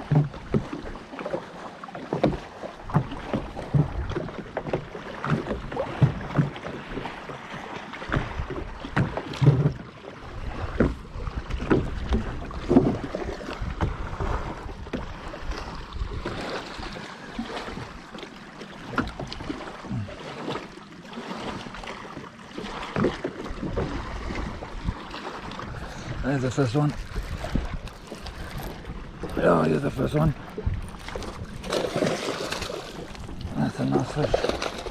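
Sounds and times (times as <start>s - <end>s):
water lapping against boat hull: 0.0s - 34.9s.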